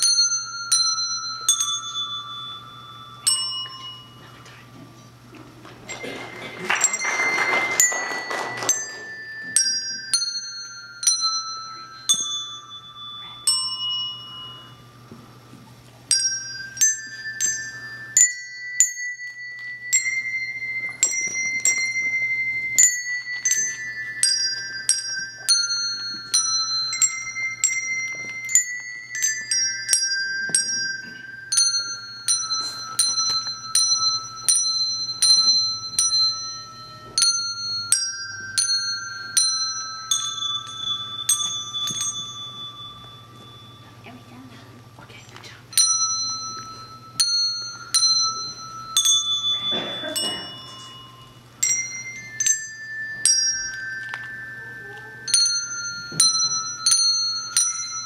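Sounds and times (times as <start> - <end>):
handbell choir ringing a melody: 0.0 - 45.0, 45.7 - 58.0.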